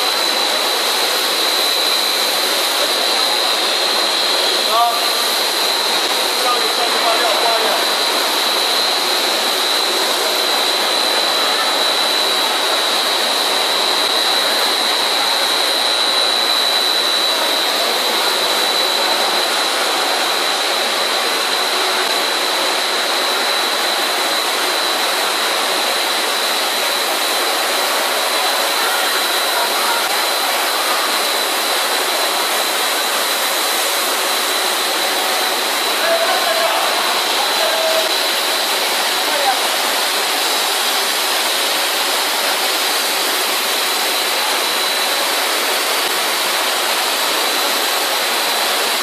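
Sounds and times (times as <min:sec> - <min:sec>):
extruder machine noise: 0:00.0 - 0:49.0
steady high whine: 0:00.0 - 0:49.0.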